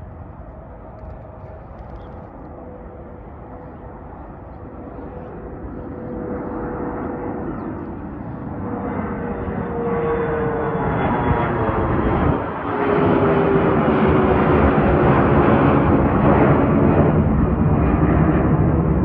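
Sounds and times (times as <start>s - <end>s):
jet engine whine: 0.0s - 19.0s
jet engines roaring: 0.0s - 19.0s.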